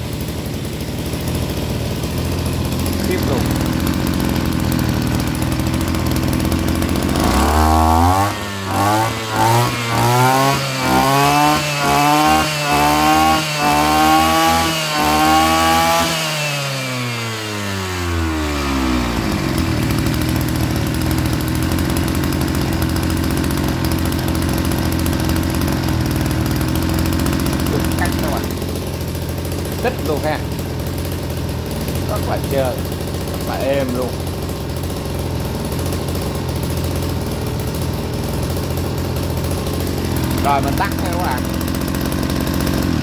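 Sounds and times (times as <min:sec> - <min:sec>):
brush cutter engine revving: 0:00.0 - 0:43.0.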